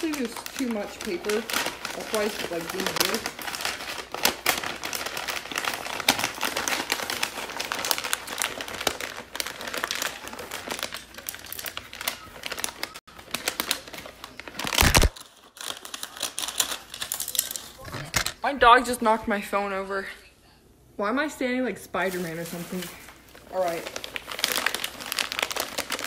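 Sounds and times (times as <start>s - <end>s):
wrapping paper crinkling: 0.0s - 18.4s, 22.0s - 26.0s.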